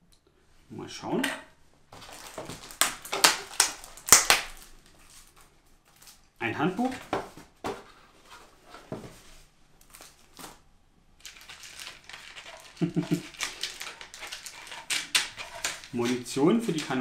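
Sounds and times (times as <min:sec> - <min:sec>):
packaging rustling and crinkling: 0:01.9 - 0:10.6, 0:11.2 - 0:17.0.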